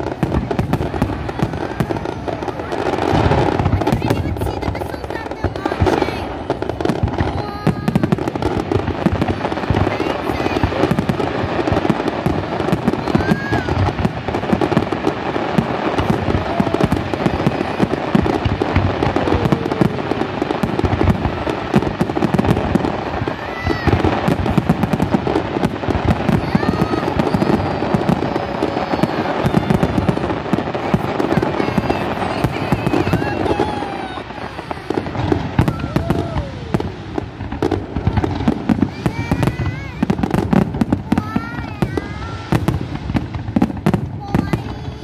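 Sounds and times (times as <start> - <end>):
fireworks banging and crackling: 0.0 - 45.0.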